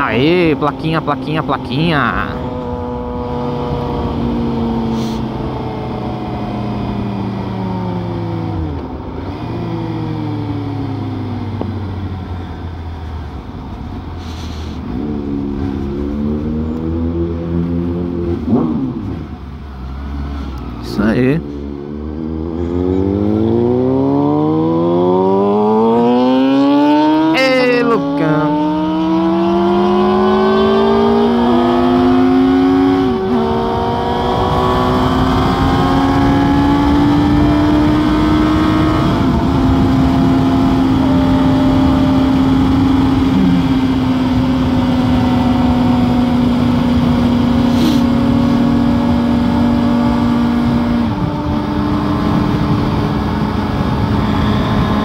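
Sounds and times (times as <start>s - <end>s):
motorcycle accelerating: 0.0s - 55.0s.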